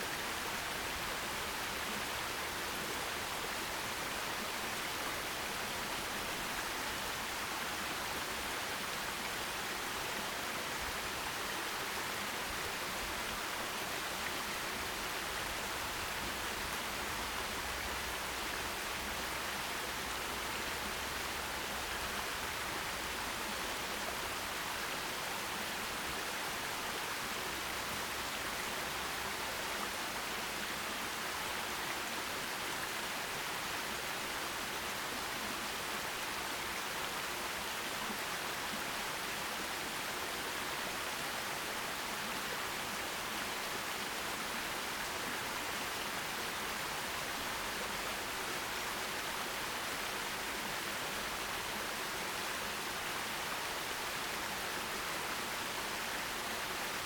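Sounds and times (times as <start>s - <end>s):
stream of running water: 0.0s - 57.0s.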